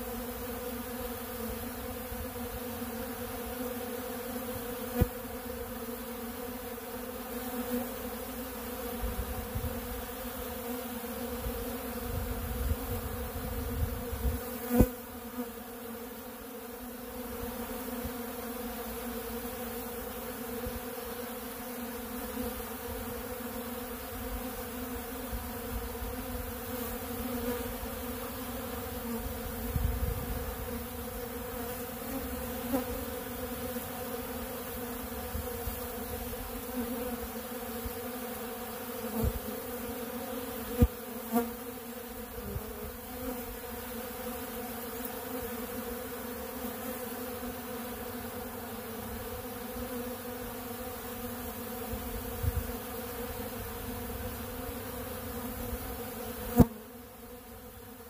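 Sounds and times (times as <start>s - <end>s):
bees buzzing: 0.0s - 58.0s.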